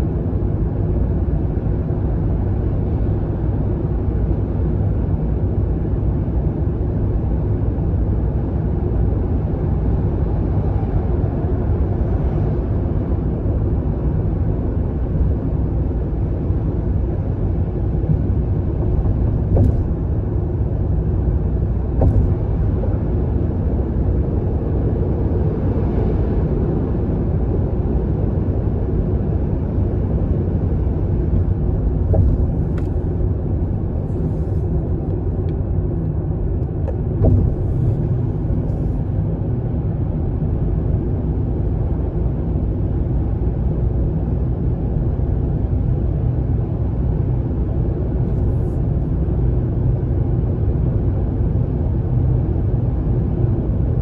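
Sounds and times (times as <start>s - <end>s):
car driving through tunnel rumble: 0.0s - 54.0s.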